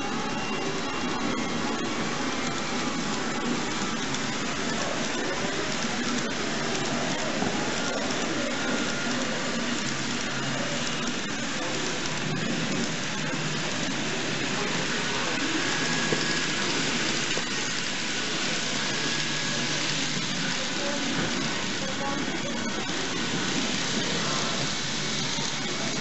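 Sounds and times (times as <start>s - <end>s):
model trains rolling on track: 0.0s - 26.0s.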